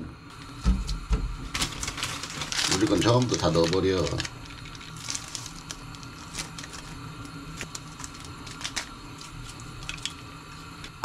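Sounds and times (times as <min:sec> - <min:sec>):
steady low hum: 0:00.0 - 0:11.0
plastic packets crinkling: 0:01.4 - 0:10.3.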